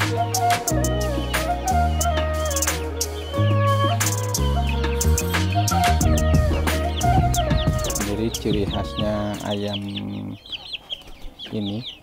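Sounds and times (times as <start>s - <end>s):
background music with bass: 0.0s - 9.8s
chicks chirping: 0.0s - 12.0s.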